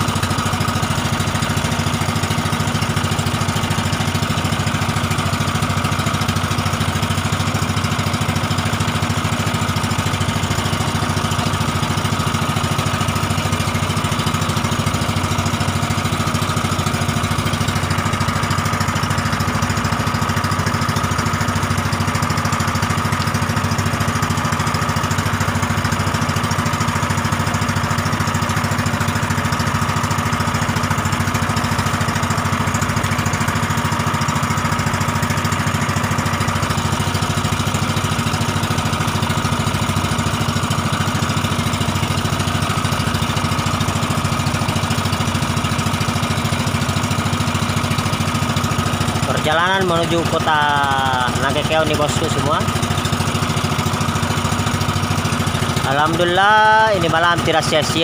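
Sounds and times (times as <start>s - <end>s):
boat engine chugging: 0.0s - 58.0s.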